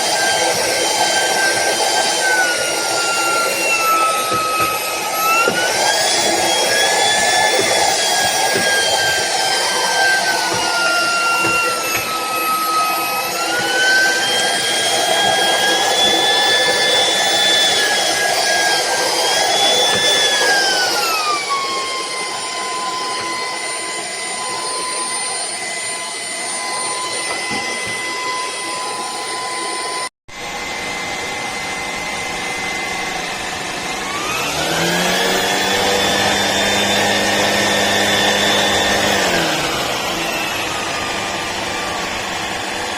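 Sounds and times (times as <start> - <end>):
stick vacuum motor whine: 0.0 - 42.9.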